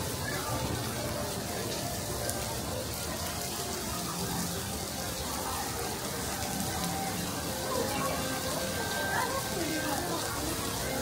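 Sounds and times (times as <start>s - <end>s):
faint voices: 0.0s - 11.0s
rain on wet pavement: 0.0s - 11.0s.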